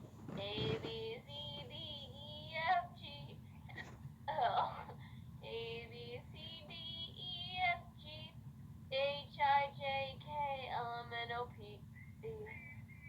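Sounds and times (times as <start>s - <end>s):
girl singing: 0.3s - 3.4s, 4.3s - 12.6s.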